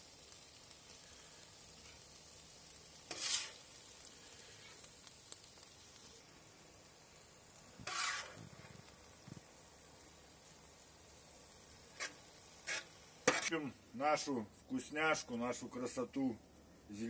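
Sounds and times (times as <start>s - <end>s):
spatula scraping sizzling pan: 0.0s - 15.4s
faint steady sizzle: 0.0s - 17.0s.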